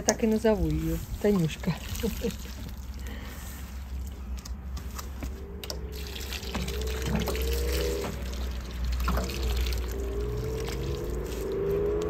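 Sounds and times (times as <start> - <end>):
water pouring onto soil: 0.3 - 4.2, 5.9 - 12.0.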